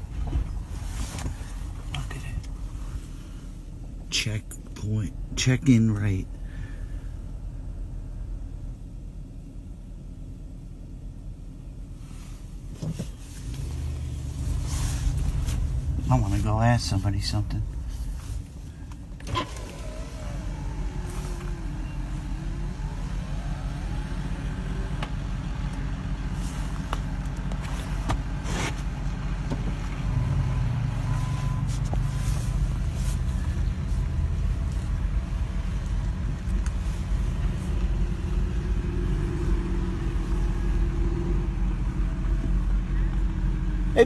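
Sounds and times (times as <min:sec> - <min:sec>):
car engine and road noise: 0:00.0 - 0:44.0.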